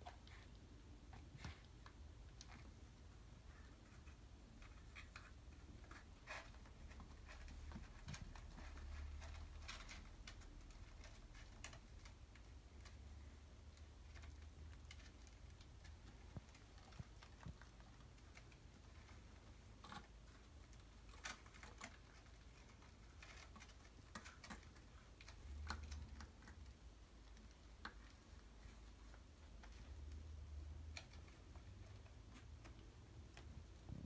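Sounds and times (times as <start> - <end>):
kitten claws scratching: 0.0 - 33.8.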